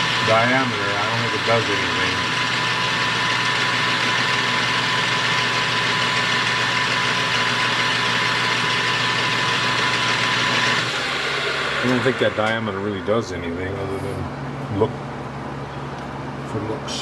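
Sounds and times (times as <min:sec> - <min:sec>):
metal lathe running: 0:00.0 - 0:13.9.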